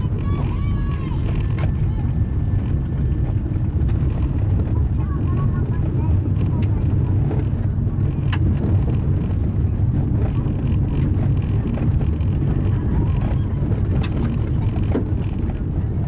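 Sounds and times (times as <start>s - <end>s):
tyres and engine rumble: 0.0s - 16.0s.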